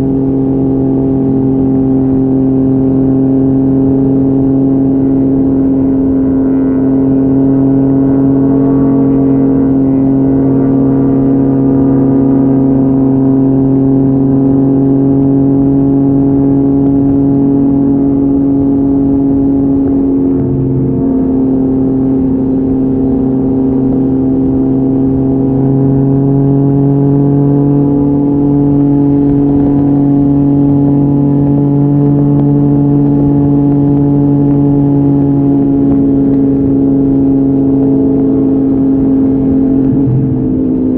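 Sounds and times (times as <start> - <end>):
motorcycle engine steady: 0.0 - 40.9.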